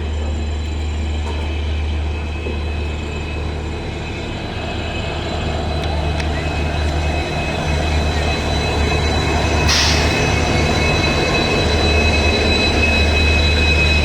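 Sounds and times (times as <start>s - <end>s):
train rumbling: 0.0s - 14.0s
high-pitched whine: 2.0s - 14.0s.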